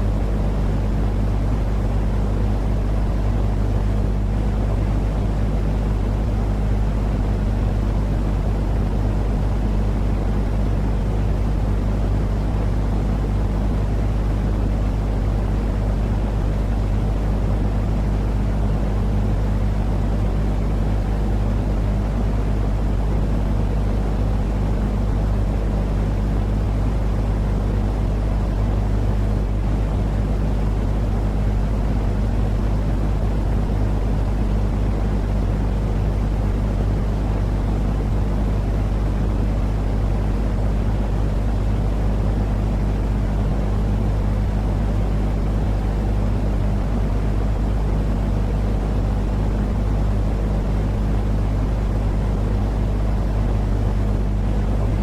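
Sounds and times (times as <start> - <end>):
white noise rumbling drone: 0.0 - 55.0.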